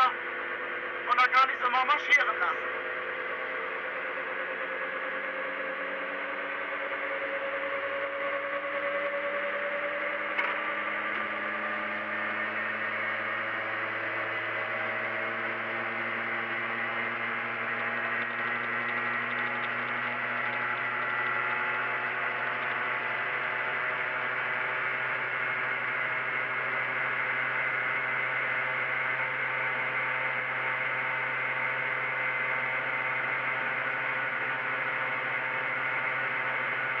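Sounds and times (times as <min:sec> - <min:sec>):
two-stroke engine droning: 0:00.0 - 0:37.0.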